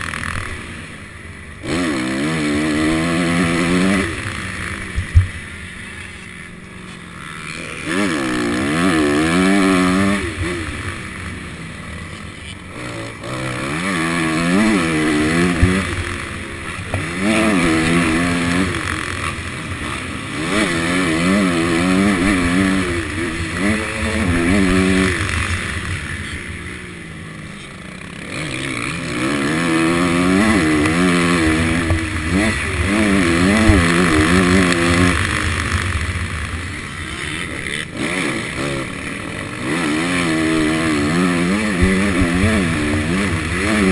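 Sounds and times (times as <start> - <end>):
motocross engine revving: 0.0 - 43.9.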